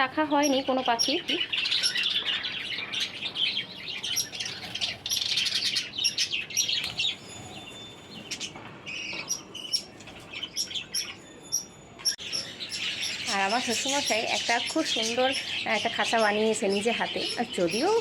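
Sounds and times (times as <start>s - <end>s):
caged birds chirping and chattering: 0.0s - 18.0s.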